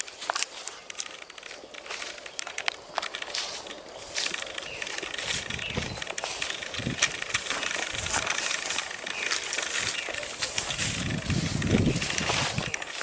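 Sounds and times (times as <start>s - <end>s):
grass and brush crackling underfoot: 0.0s - 13.0s.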